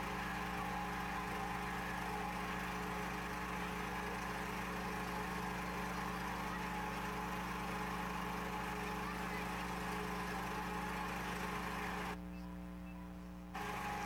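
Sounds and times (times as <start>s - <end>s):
engine humming: 0.0s - 12.2s, 13.5s - 14.0s.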